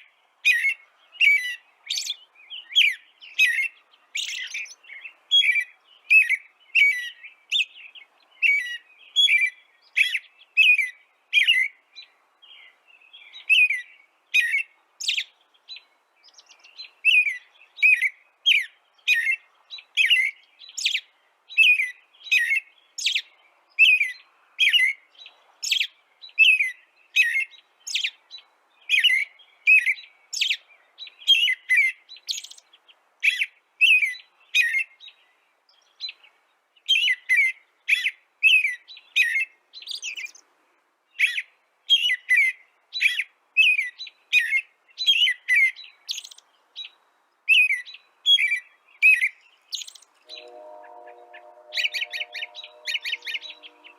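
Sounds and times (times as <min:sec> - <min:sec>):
bird chirping: 0:00.0 - 0:40.5, 0:41.1 - 0:53.9.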